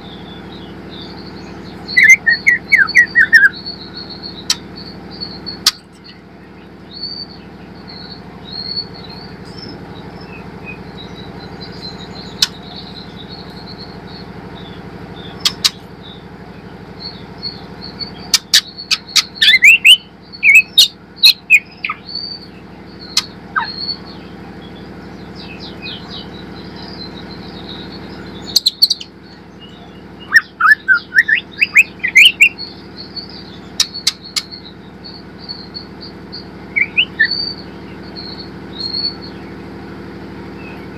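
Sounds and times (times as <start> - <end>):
faint high twittering: 0.0 - 40.9
songbird whistling: 0.0 - 40.9
steady low hum: 0.0 - 40.9.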